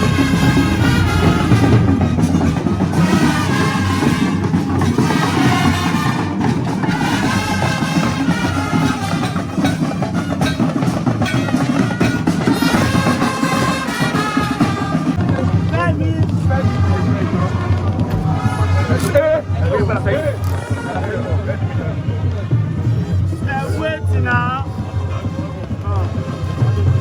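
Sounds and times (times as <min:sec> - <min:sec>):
music with heavy drumming: 0:00.0 - 0:27.0.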